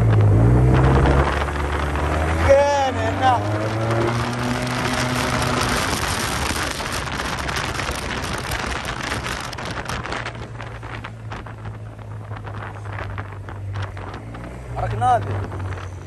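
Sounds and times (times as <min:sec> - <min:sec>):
scooter engine humming: 0:00.0 - 0:16.0
wind rushing over microphone: 0:00.0 - 0:16.0.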